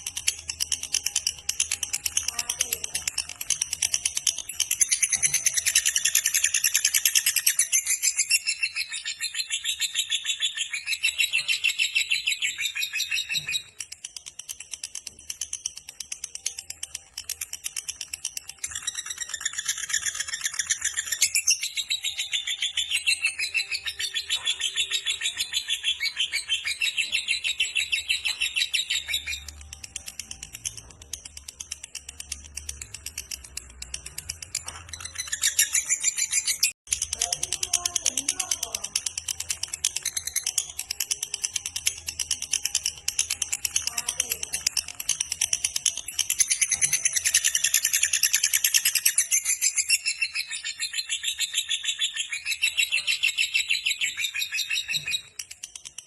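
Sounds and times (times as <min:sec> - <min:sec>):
lovebird chattering trill: 0:00.0 - 0:56.0.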